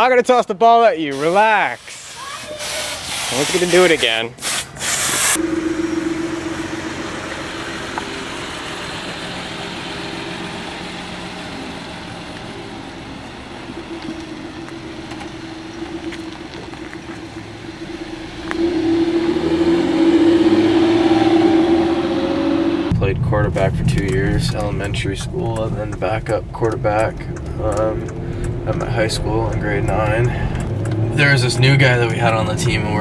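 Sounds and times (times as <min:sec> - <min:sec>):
engine humming: 0:01.1 - 0:33.0.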